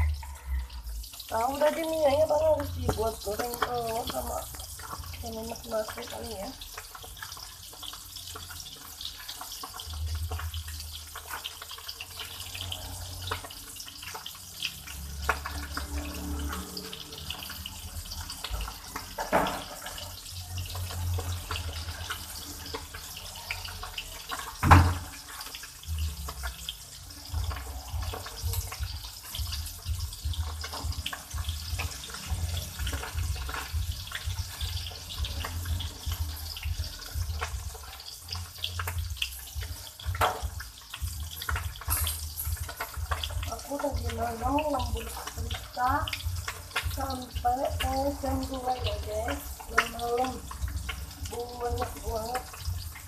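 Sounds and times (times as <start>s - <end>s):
tap water running into sink: 0.0s - 53.0s.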